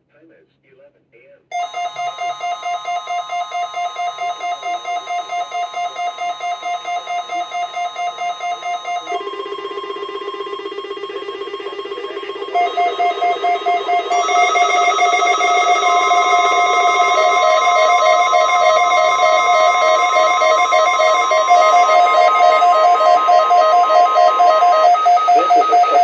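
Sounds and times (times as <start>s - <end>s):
low warbling alarm tone: 1.5s - 26.0s
rapid pulsed alarm beeping: 1.5s - 26.0s.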